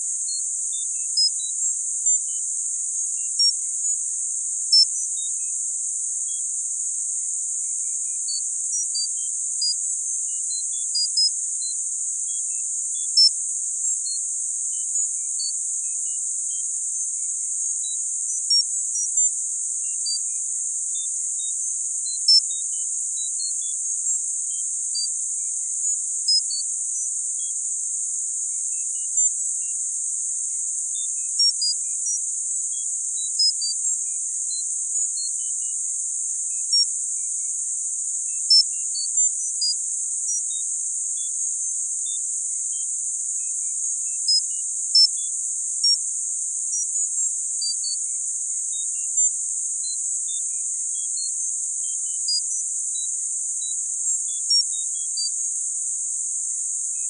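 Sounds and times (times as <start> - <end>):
steady high-pitched hiss: 0.0 - 57.0.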